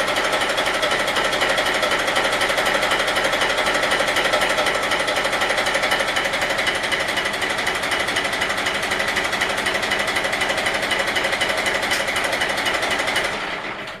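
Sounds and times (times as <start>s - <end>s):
boat engine running with clatter: 0.0s - 14.0s.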